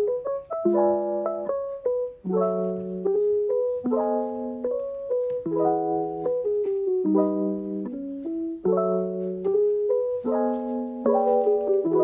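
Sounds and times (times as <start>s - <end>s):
soft electric piano melody: 0.0s - 12.0s.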